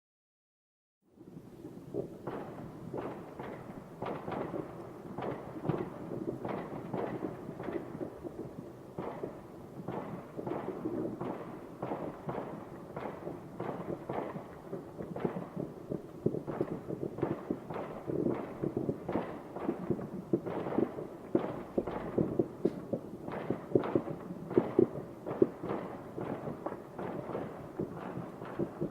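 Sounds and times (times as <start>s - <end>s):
distant fireworks bangs: 1.2s - 28.9s
steady low rumble: 3.6s - 28.9s.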